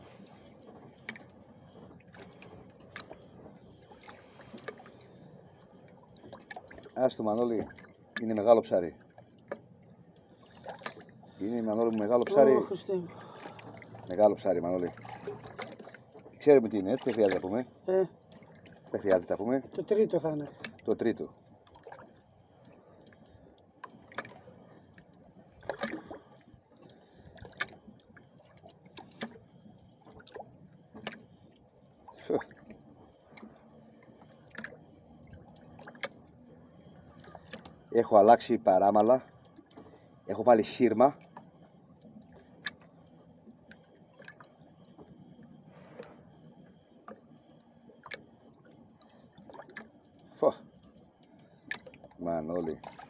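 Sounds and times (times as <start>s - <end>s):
water slapping against boat hull: 0.0s - 9.7s, 10.4s - 23.2s, 23.8s - 31.4s, 32.0s - 36.4s, 37.0s - 42.9s, 49.0s - 50.6s, 51.6s - 53.0s
low steady hum: 0.0s - 53.0s
low steady water wash: 0.0s - 53.0s.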